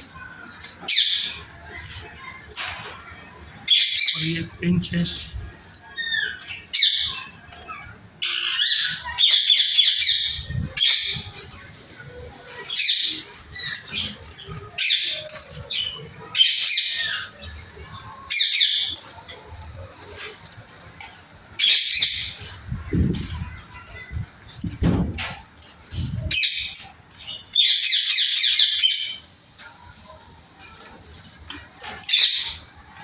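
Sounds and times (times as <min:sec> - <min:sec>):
pet birds squawking: 0:00.0 - 0:33.0.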